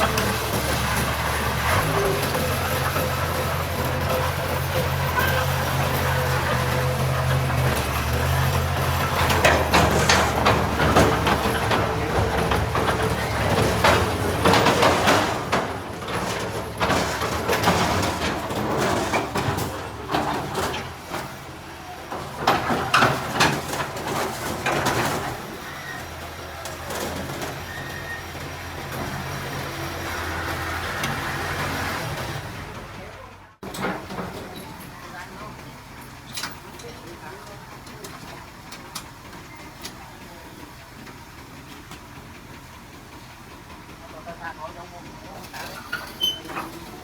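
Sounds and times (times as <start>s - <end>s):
bulldozer diesel engine running: 0.0s - 47.0s
machinery clanking: 0.0s - 47.0s.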